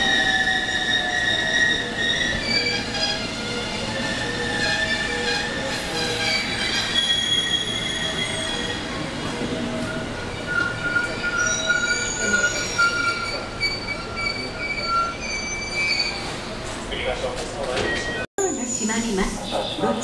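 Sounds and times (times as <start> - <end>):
train brakes squealing: 0.0 - 16.8, 17.7 - 20.0.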